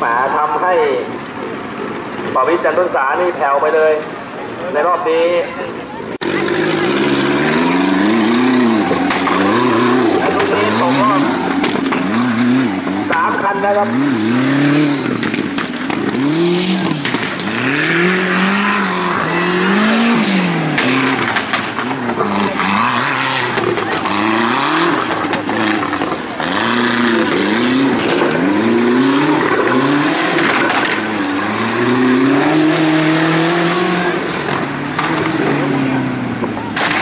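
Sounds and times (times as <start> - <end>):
buggy engine revving: 5.6 - 37.0.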